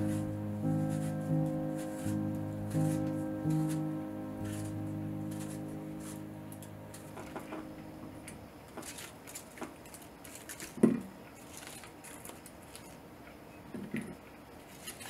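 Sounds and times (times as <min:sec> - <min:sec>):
rustling leaves and apples: 0:00.0 - 0:13.2, 0:14.6 - 0:15.0.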